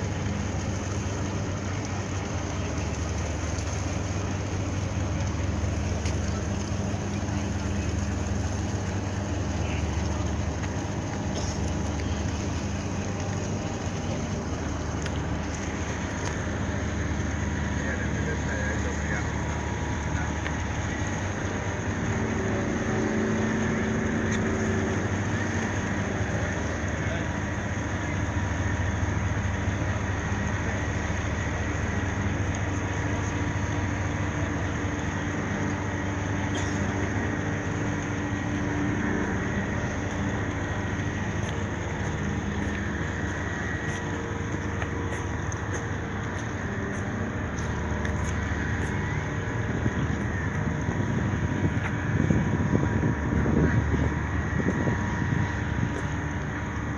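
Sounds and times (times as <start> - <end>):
boat engine droning: 0.0 - 56.9.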